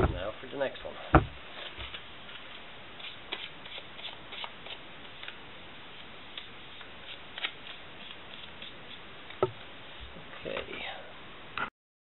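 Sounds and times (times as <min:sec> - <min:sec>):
low steady hiss: 0:00.0 - 0:11.7.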